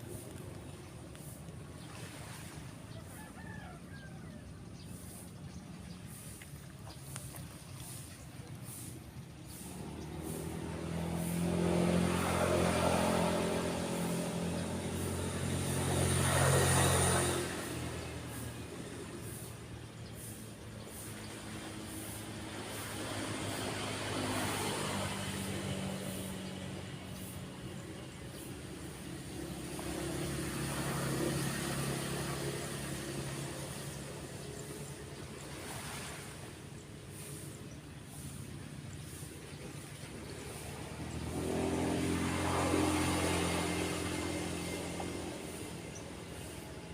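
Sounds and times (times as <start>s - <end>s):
waves breaking on beach: 0.0s - 4.5s, 5.1s - 46.9s
vehicle engine humming: 0.0s - 46.9s.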